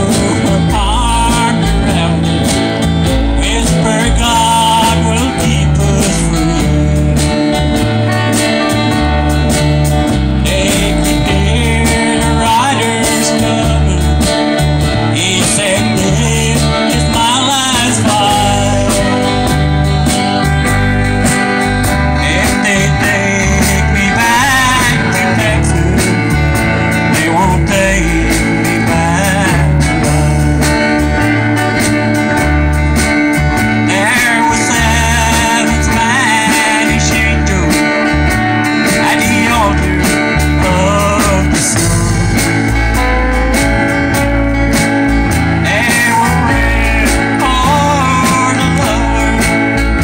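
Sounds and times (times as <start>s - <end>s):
acoustic rhythm guitar: 0.0s - 50.0s
bass guitar: 0.0s - 50.0s
drum kit: 0.0s - 50.0s
electric lead guitar: 0.0s - 50.0s.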